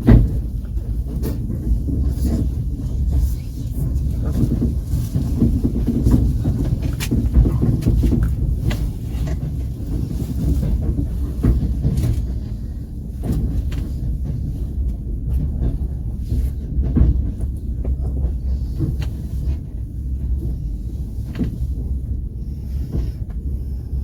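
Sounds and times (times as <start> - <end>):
train carriage rumble: 0.0 - 24.0.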